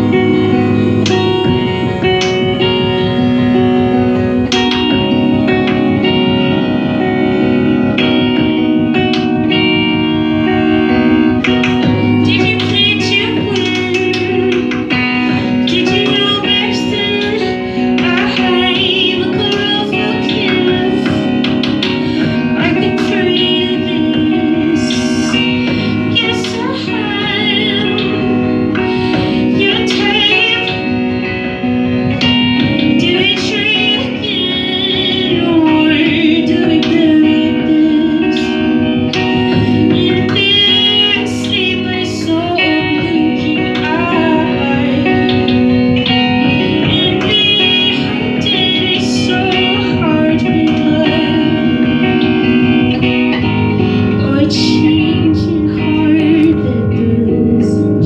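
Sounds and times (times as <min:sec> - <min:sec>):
guitar accompaniment: 0:00.0 - 0:58.0
person singing: 0:00.0 - 0:58.0.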